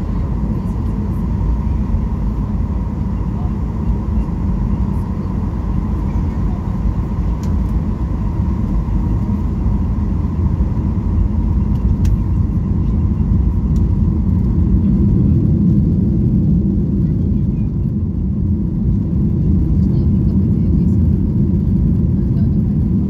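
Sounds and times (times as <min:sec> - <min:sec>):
airflow over fuselage: 0:00.0 - 0:23.0
airplane cabin engine rumble: 0:00.0 - 0:23.0.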